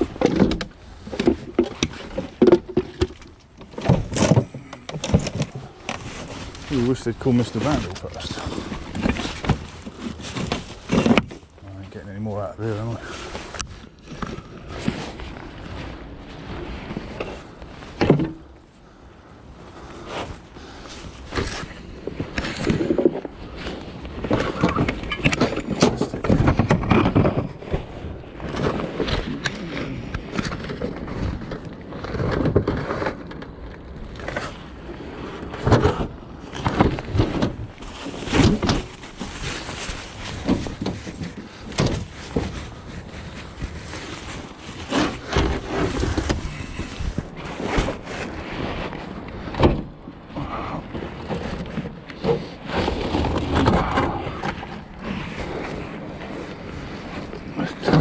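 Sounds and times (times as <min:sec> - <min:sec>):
junk clattering and rustling: 0:00.0 - 0:18.6, 0:19.9 - 0:34.8, 0:35.4 - 0:58.0.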